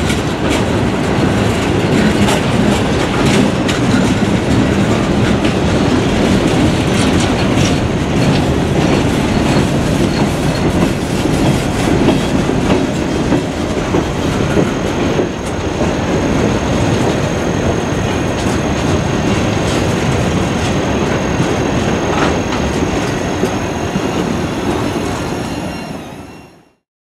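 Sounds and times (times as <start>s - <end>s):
wheels clicking over rail joints: 0.0s - 24.9s
train wheels rumbling on rail: 0.0s - 26.8s.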